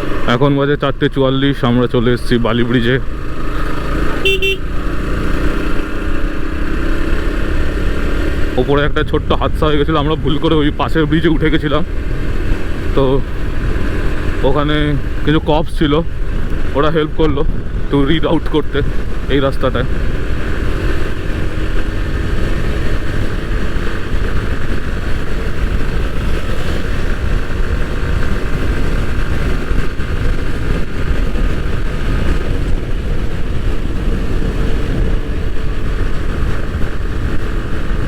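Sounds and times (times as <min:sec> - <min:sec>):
motorcycle engine running: 0:01.8 - 0:38.0
wind rush on microphone: 0:01.9 - 0:38.0.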